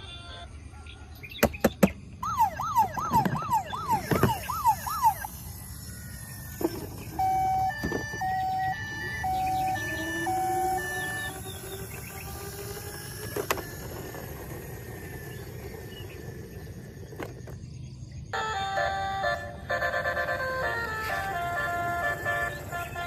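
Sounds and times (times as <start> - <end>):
electronic toy siren wail: 2.2 - 17.6, 18.3 - 23.0
toy clicks: 2.2 - 17.6, 19.9 - 23.0.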